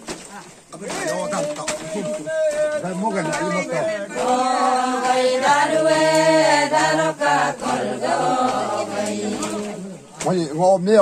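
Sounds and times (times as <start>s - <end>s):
group chanting: 1.0s - 10.2s.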